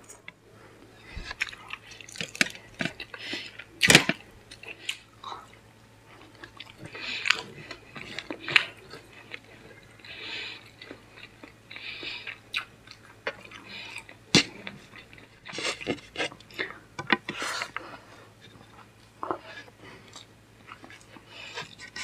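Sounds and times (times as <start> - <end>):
person chewing: 1.0 - 22.0.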